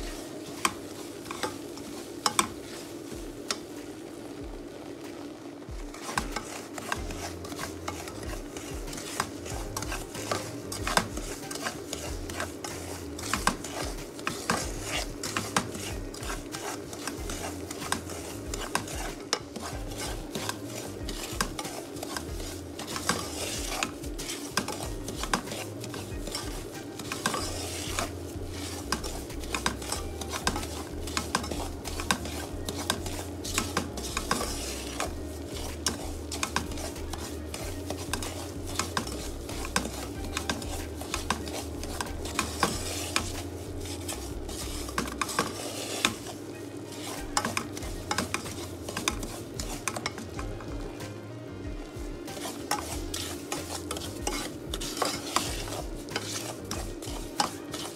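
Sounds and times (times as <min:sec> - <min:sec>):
light sizzle: 0:00.0 - 0:57.9
spatula scraping a pan: 0:00.0 - 0:57.9.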